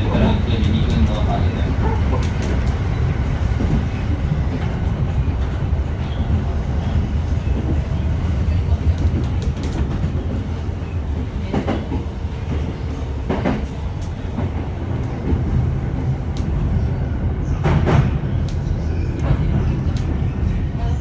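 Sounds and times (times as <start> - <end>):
train car low rumble: 0.0 - 21.0.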